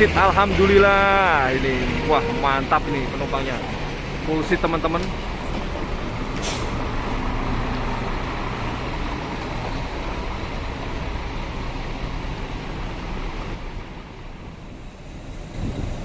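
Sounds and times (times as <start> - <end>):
bus engine droning: 0.0 - 16.0
traffic noise: 0.0 - 16.0.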